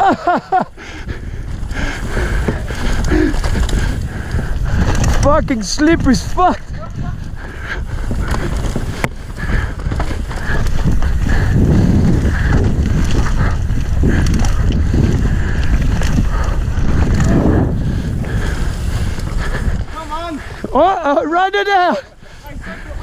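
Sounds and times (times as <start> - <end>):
mountain bike rattling: 0.0 - 23.0
tyre noise: 0.0 - 23.0
wind rushing over microphone: 0.7 - 21.2.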